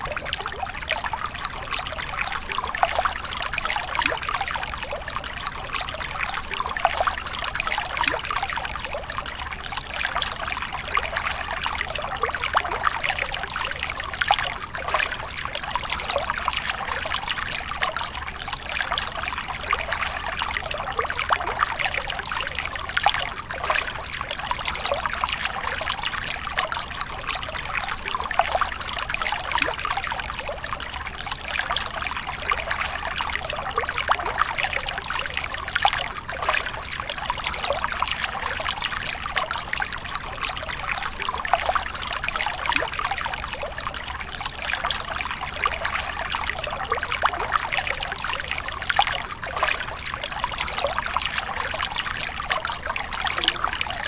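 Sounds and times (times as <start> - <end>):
water trickling into pool: 0.0 - 54.0.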